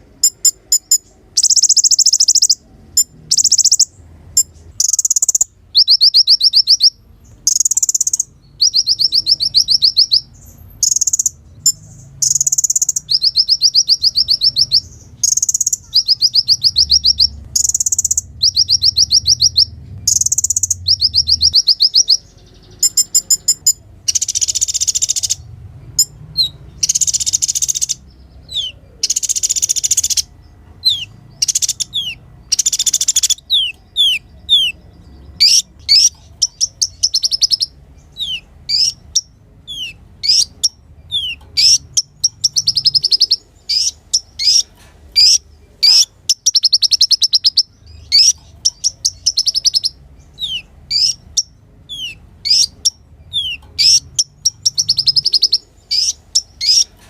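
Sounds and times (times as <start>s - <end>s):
sunbird singing: 0.0s - 57.0s.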